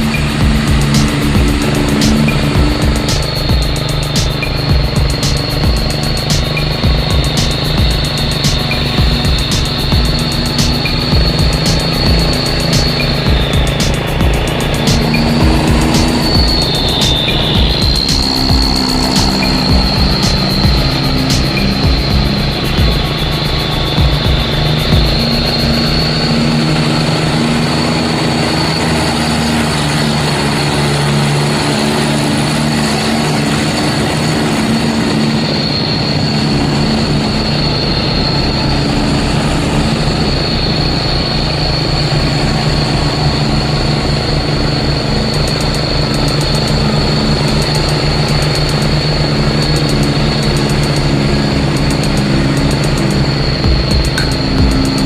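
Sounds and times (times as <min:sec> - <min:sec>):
high whine: 0:00.0 - 0:55.0
vehicle engine droning: 0:00.0 - 0:55.0.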